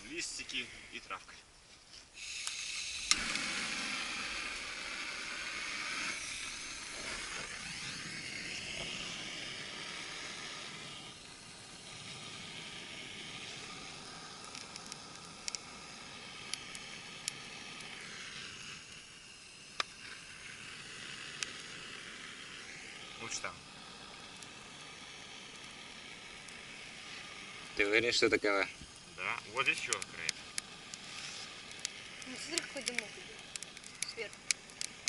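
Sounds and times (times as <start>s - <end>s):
fire crackles: 0.0s - 35.0s
hiss of flame: 0.0s - 35.0s.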